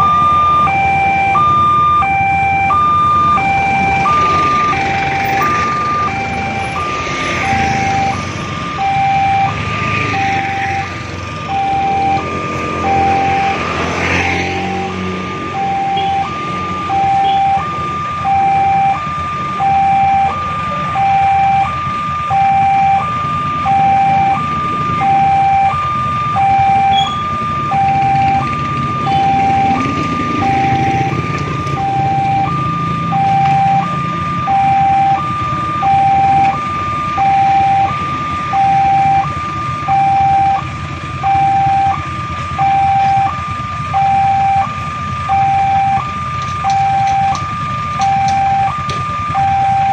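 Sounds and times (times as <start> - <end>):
level crossing two-tone alarm: 0.0 - 49.9
vehicle engines running: 0.0 - 49.9.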